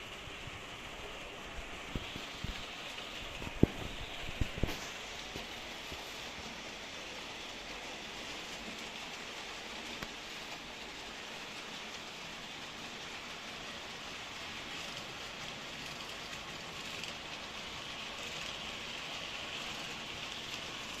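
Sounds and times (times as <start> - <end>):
model train wheels rolling on track: 0.0 - 21.0.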